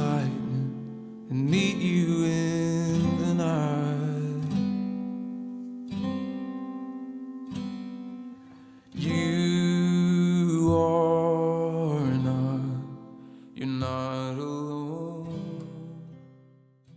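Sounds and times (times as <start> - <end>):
acoustic guitar: 0.0 - 16.9.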